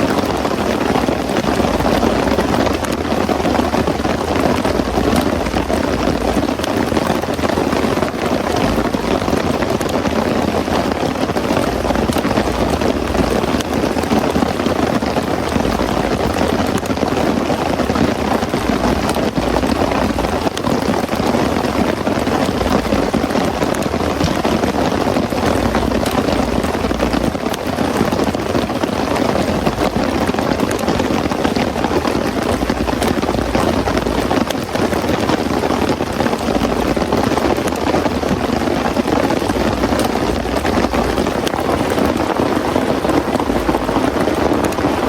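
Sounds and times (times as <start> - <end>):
heavy rain pouring: 0.0 - 45.0
raindrops ticking: 0.0 - 45.0.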